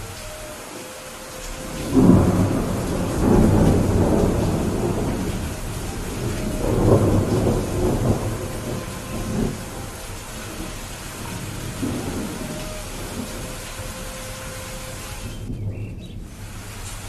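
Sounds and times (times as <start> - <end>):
steady rainfall: 0.0 - 17.0
thunder rumbling: 0.0 - 17.0.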